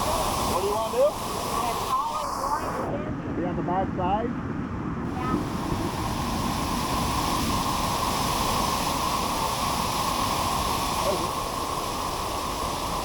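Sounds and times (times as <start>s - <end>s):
waterfall rushing: 0.0s - 2.9s, 5.1s - 13.0s.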